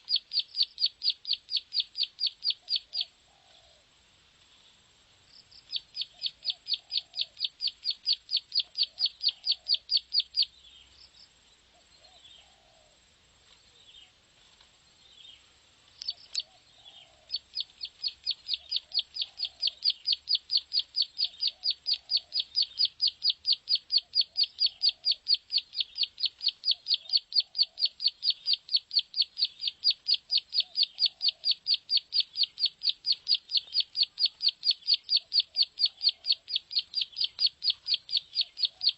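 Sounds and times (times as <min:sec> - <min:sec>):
bird song of sharp high notes: 0:00.0 - 0:03.8, 0:04.7 - 0:12.7, 0:14.8 - 0:38.9.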